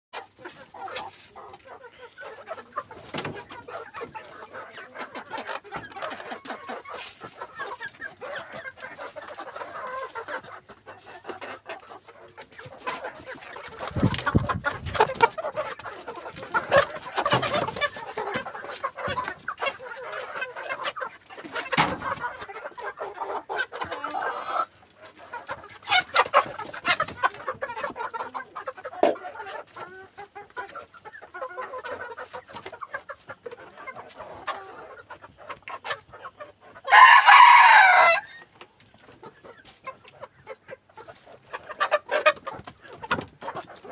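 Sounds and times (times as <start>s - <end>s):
roosters clucking: 0.2s - 43.9s.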